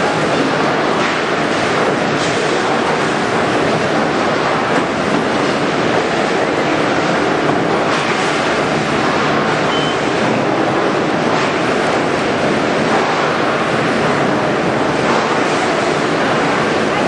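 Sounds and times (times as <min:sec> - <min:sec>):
packaging machine running: 0:00.0 - 0:17.0.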